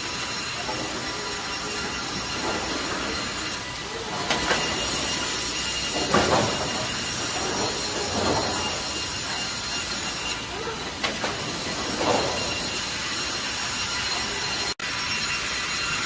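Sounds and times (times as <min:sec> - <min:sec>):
timber machinery running: 0:00.0 - 0:16.0
sharp clacks: 0:00.4 - 0:14.8.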